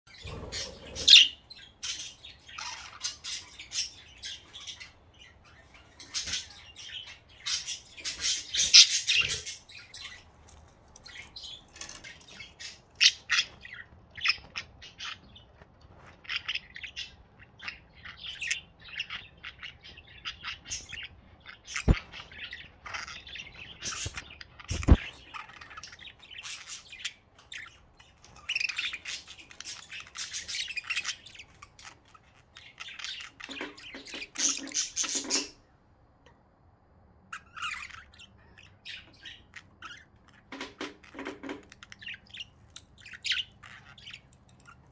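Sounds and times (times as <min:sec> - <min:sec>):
budgerigars chirping and squawking: 0:00.1 - 0:35.8, 0:37.2 - 0:44.9.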